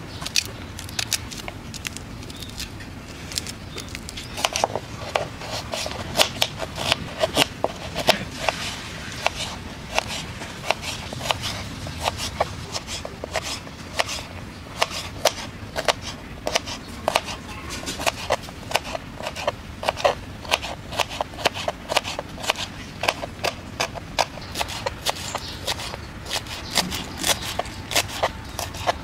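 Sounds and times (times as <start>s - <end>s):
knife chopping on cutting board: 4.4s - 29.0s.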